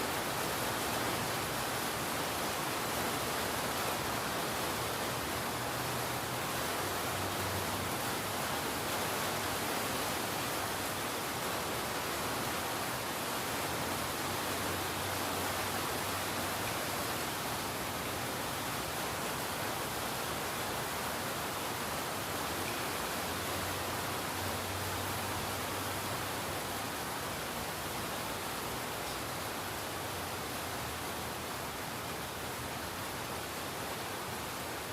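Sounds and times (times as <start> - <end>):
steady rain hiss: 0.0 - 34.9.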